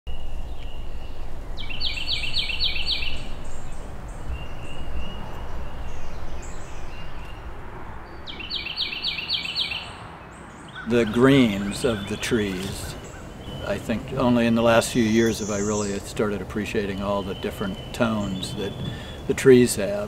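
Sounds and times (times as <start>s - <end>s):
low outdoor rumble: 0.1s - 8.7s, 10.6s - 20.0s
bird singing rolling phrase: 0.1s - 20.0s.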